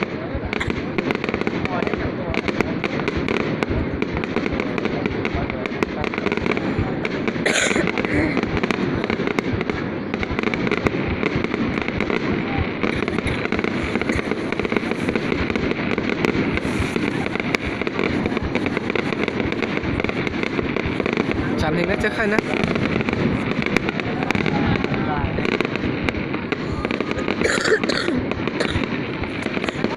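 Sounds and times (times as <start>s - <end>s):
fireworks popping and crackling: 0.0s - 29.9s.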